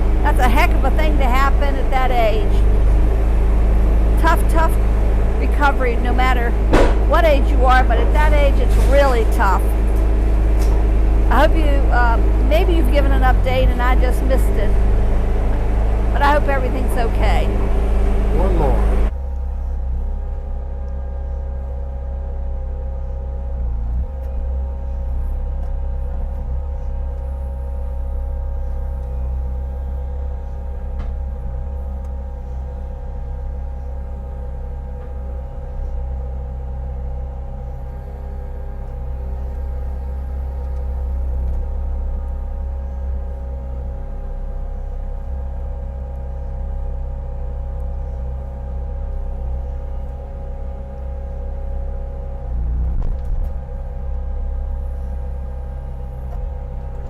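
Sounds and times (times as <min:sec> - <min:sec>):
constant machine whine: 0:00.0 - 0:57.0
diesel engine rumbling: 0:00.0 - 0:57.0.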